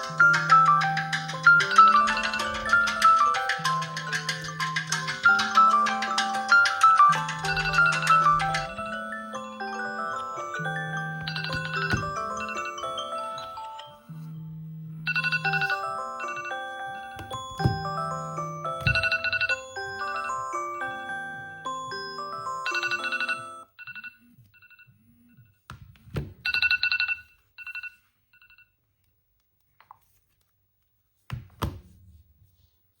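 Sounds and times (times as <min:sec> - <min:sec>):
melodic phone alarm chime: 0:00.0 - 0:25.6, 0:26.4 - 0:28.8.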